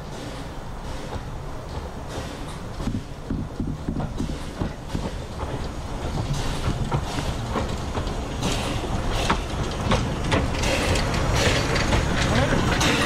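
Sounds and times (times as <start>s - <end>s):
steam hissing: 0.0s - 13.0s
steam locomotive rumbling: 0.0s - 13.0s
wheels clicking over rail joints: 0.0s - 13.0s.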